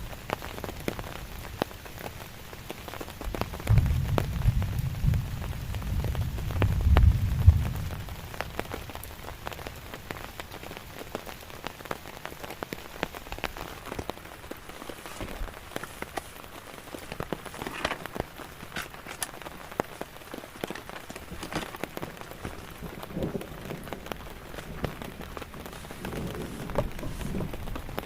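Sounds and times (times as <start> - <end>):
raindrops striking close by: 0.0 - 28.0.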